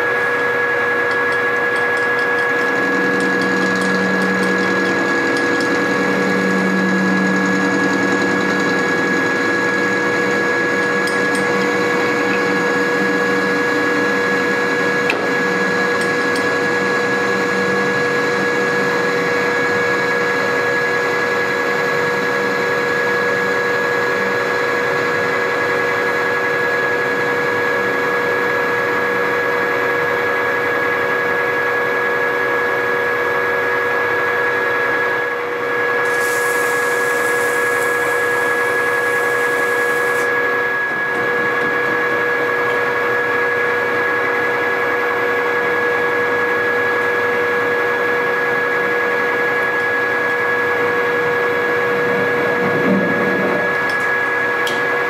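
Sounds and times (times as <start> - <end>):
metal lathe whining: 0.0 - 28.9, 35.9 - 55.0.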